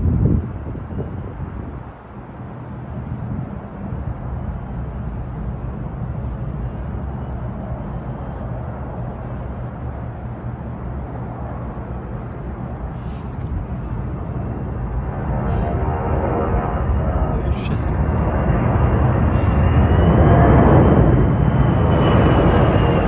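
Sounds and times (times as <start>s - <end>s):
jet aircraft rumble: 0.0s - 23.0s.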